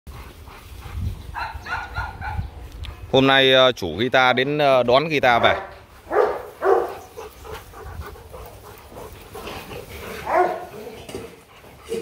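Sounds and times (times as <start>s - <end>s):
dogs panting: 0.1s - 3.2s, 5.2s - 12.0s.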